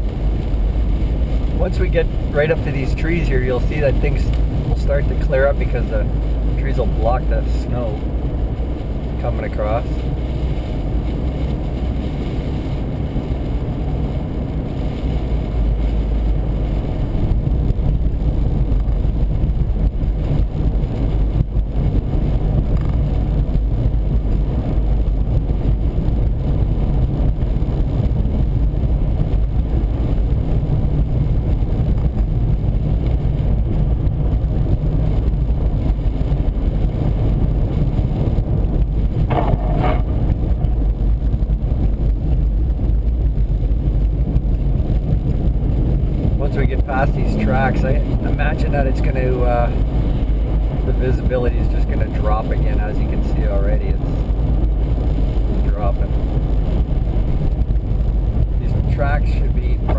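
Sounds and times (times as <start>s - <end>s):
car cabin road noise: 0.0s - 59.9s.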